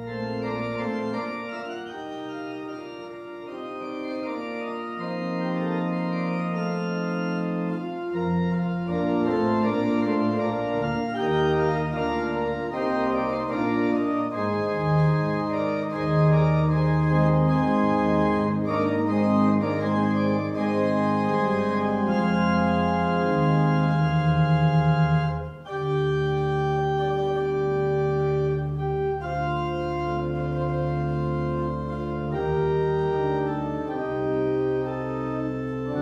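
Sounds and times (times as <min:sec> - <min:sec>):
organ playing sustained chords: 0:00.0 - 0:36.0.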